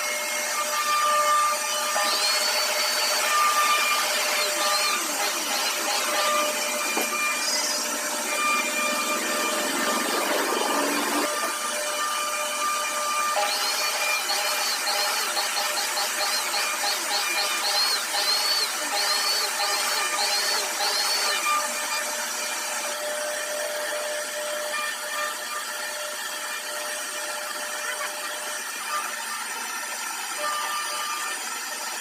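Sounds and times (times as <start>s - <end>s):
router spindle whining: 0.0s - 32.0s.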